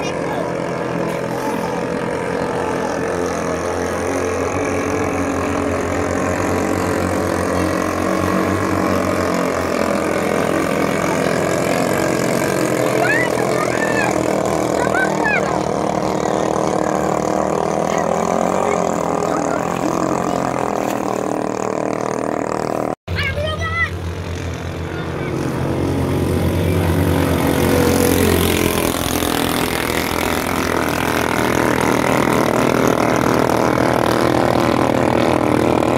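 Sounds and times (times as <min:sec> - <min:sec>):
boat engines buzzing: 0:00.0 - 0:35.9.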